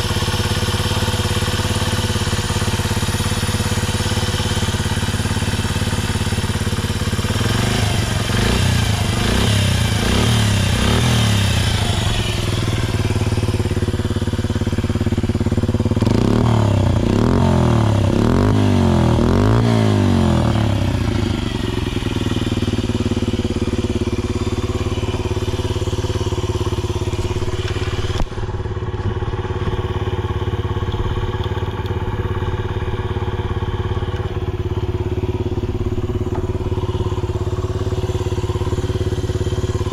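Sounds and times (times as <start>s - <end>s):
motorbike engine revving and idling: 0.0s - 39.9s.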